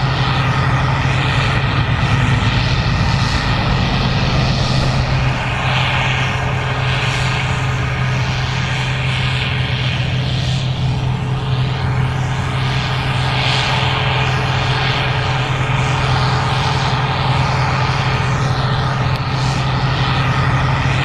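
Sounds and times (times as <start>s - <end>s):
combine engine drone: 0.0s - 21.0s.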